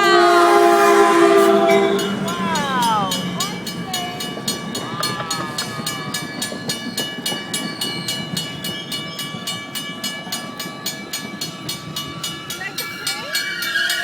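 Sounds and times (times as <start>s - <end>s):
train rolling rumble: 0.0s - 14.0s.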